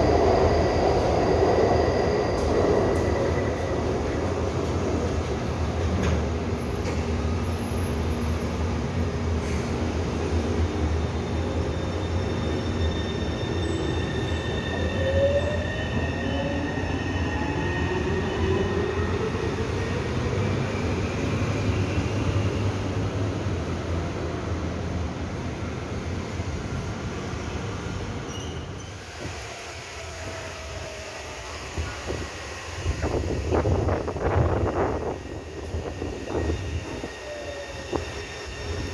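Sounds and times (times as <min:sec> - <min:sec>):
electric train hum and whine: 0:00.0 - 0:38.9.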